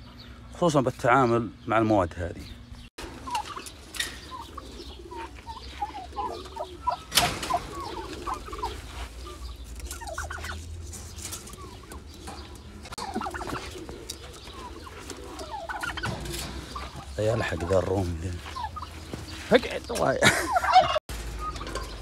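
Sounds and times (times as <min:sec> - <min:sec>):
turkeys calling: 0:00.0 - 0:22.0.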